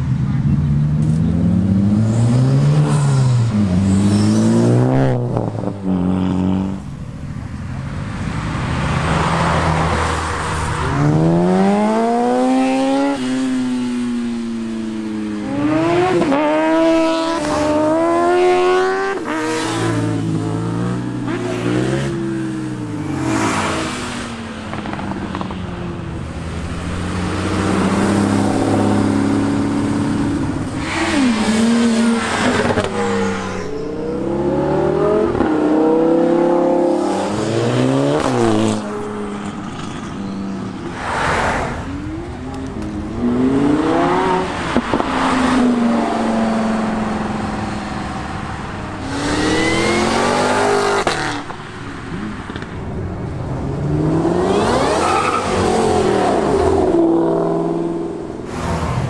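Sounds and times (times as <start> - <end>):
sports car engines revving: 0.0 - 59.0.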